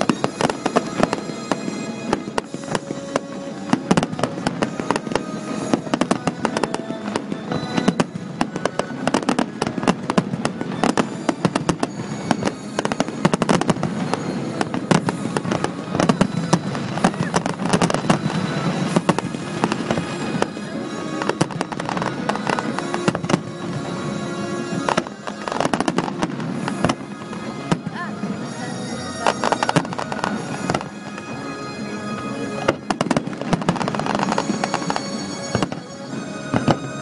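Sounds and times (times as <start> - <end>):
fireworks bursting and crackling: 0.0 - 37.0
music playing: 0.0 - 37.0.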